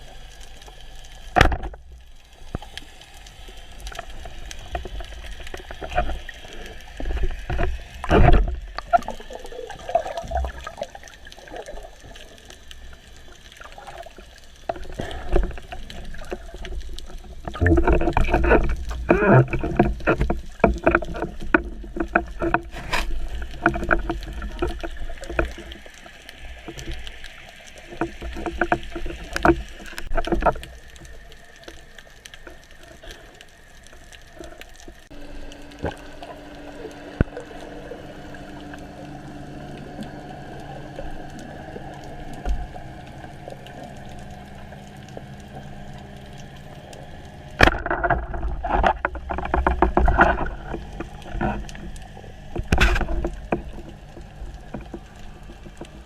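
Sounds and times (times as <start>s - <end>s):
constant low hum: 0.0s - 56.0s
water sloshing and splashing: 0.0s - 56.0s.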